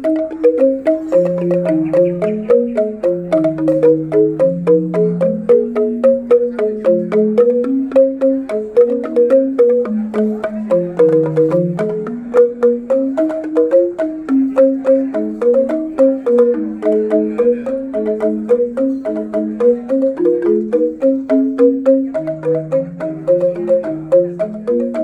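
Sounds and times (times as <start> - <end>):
bamboo xylophones playing: 0.0 - 25.0.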